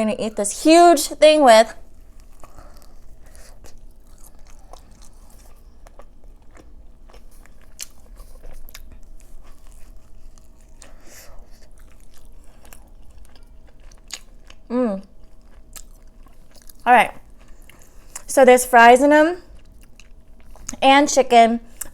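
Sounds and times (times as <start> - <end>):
person chewing food: 1.8 - 18.3, 19.4 - 20.8, 21.7 - 21.9.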